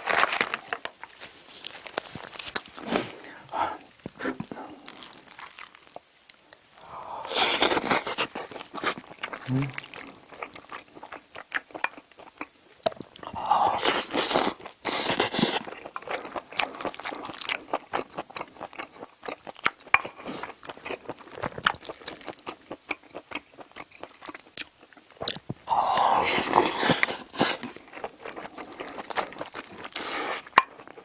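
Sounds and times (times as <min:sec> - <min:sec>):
person chewing and mouth smacking: 0:00.1 - 0:31.0.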